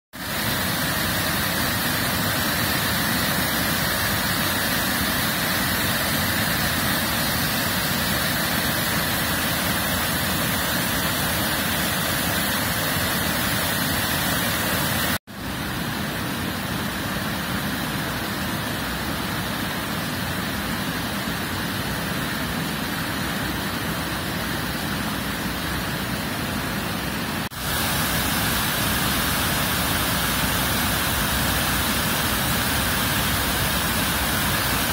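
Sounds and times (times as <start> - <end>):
stream rushing over boulders: 0.2 - 34.9.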